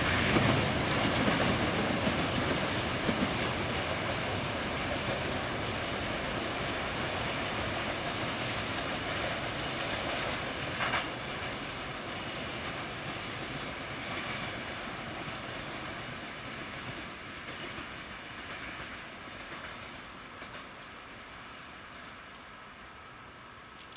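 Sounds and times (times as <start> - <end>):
train rolling along track: 0.0 - 23.9.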